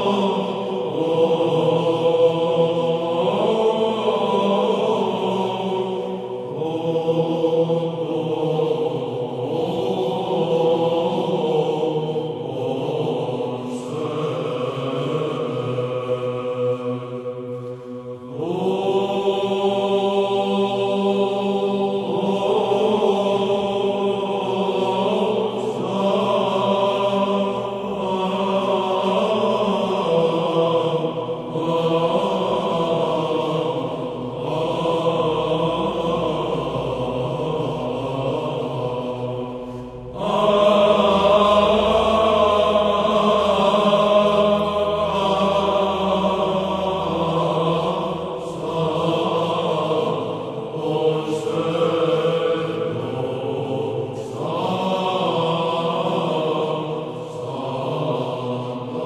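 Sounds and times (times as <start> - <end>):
low sung drone: 0.0 - 59.0
male choir chanting a hymn: 0.0 - 59.0.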